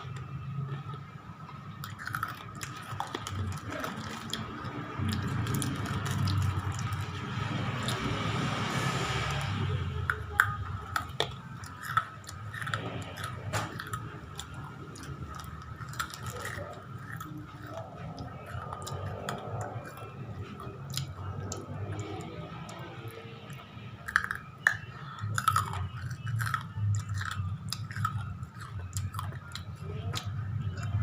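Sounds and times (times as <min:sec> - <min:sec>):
person chewing crisp chips: 0:01.6 - 0:31.0.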